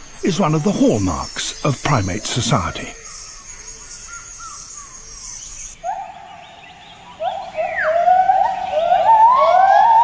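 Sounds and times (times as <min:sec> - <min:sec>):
forest insects buzzing: 0:00.0 - 0:10.0.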